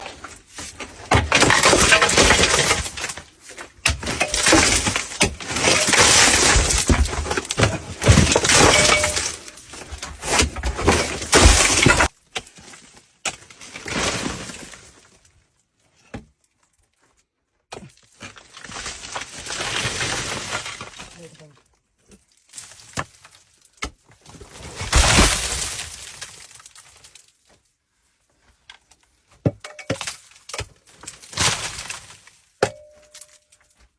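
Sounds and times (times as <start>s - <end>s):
coal breaking and falling: 0.0s - 15.3s, 17.7s - 21.5s, 22.1s - 27.5s, 29.4s - 33.9s.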